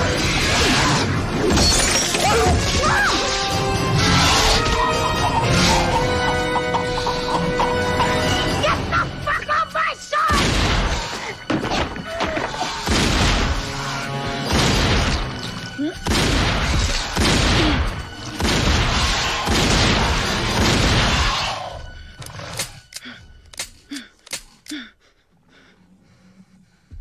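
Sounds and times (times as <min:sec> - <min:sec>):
dramatic music: 0:00.0 - 0:24.8.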